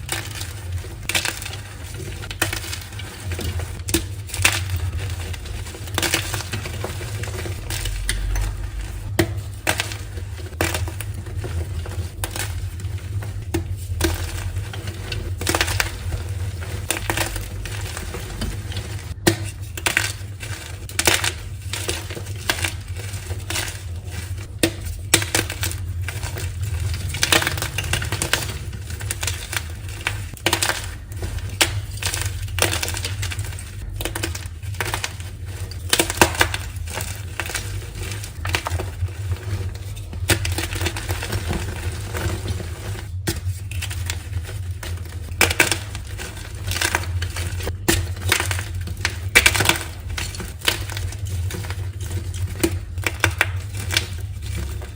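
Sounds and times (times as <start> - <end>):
chalk being crushed: 0.0 - 54.9.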